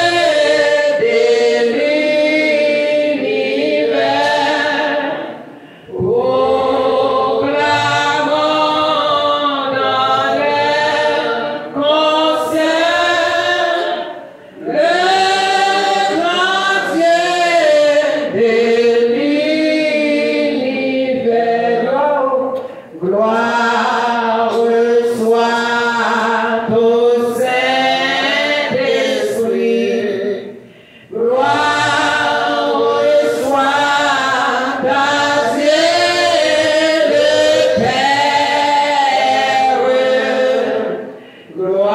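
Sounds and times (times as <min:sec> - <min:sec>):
group singing a hymn: 0:00.0 - 0:41.9.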